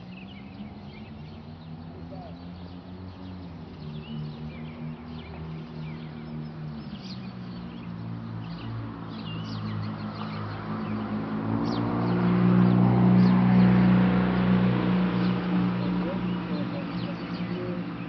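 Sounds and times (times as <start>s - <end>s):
birds chirping: 0.0s - 18.0s
vehicle engine hum: 0.0s - 18.0s.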